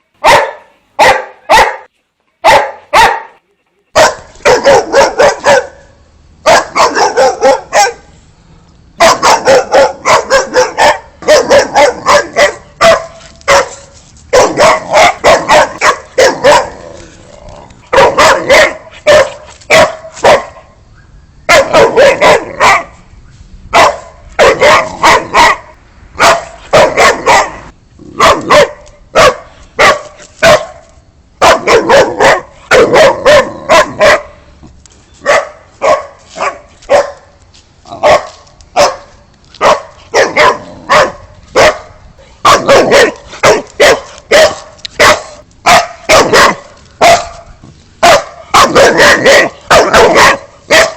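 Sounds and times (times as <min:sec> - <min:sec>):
dog barking: 0:00.2 - 0:03.4, 0:04.0 - 0:05.8, 0:06.4 - 0:08.1, 0:09.0 - 0:16.8, 0:17.9 - 0:20.7, 0:21.5 - 0:23.0, 0:23.8 - 0:30.8, 0:31.4 - 0:34.4, 0:35.2 - 0:37.2, 0:38.0 - 0:47.4, 0:48.0 - 0:50.9.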